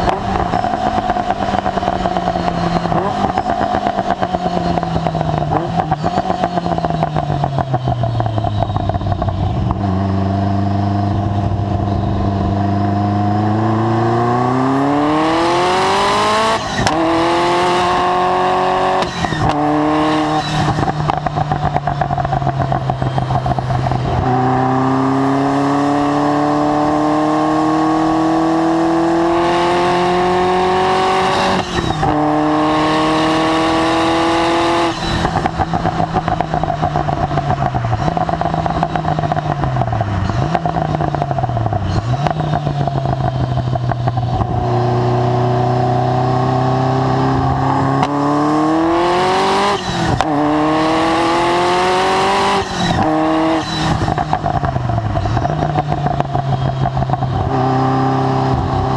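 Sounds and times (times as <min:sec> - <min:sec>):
sports car engine accelerating: 0:00.0 - 0:58.9.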